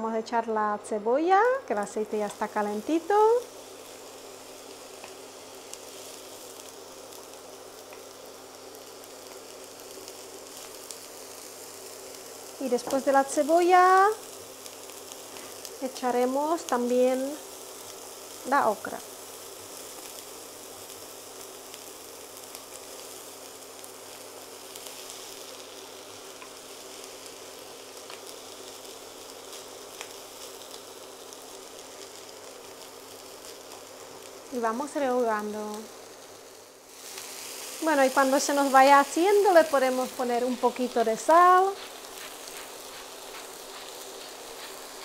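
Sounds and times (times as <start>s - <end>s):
onion sizzling in a frying pan: 0.0s - 45.0s.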